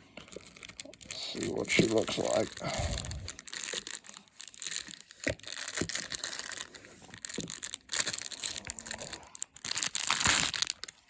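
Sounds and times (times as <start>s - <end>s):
plastic packaging crinkling and tearing: 0.1s - 11.0s.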